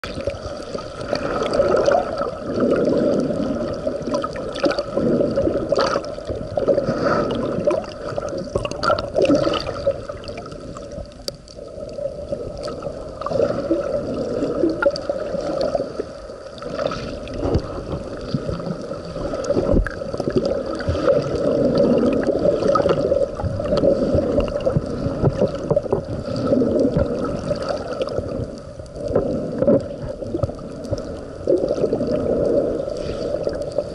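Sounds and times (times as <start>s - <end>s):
muffled underwater sloshing: 0.0s - 33.9s.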